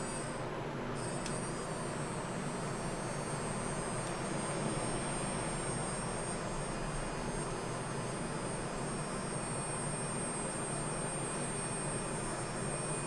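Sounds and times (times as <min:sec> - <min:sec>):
facial brush electric hum: 0:00.0 - 0:00.4, 0:01.0 - 0:13.0
thin high whine: 0:00.0 - 0:13.0.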